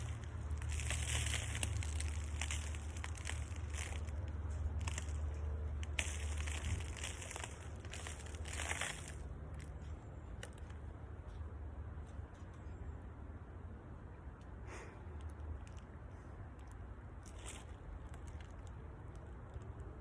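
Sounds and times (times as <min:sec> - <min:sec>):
crunching and crinkling: 0:00.0 - 0:12.7, 0:14.4 - 0:20.0
steady low hum: 0:00.0 - 0:20.0.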